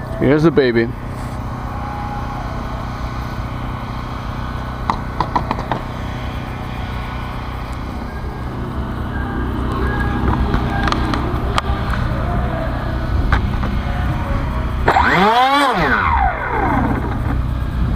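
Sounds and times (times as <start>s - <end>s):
low motor hum: 0.0s - 17.9s.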